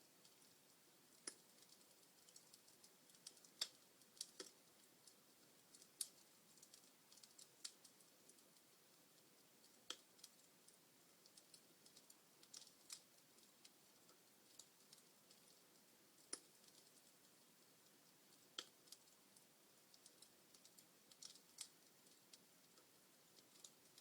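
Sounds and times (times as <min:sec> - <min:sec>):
faint hiss: 0:00.0 - 0:24.0
wood fire crackling and popping: 0:00.1 - 0:24.0.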